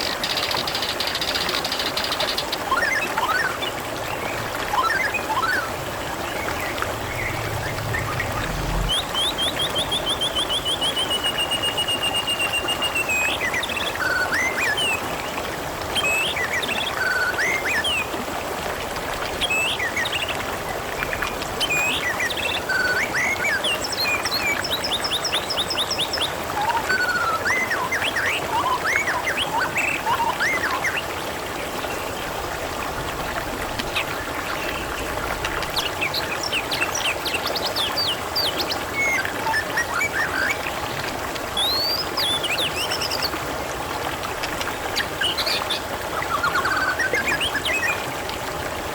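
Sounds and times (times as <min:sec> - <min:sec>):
water trickling and gurgling: 0:00.0 - 0:48.9.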